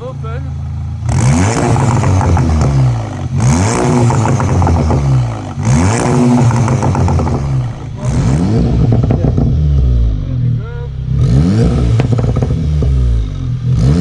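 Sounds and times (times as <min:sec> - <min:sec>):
car engine revving loudly: 0:00.0 - 0:14.0.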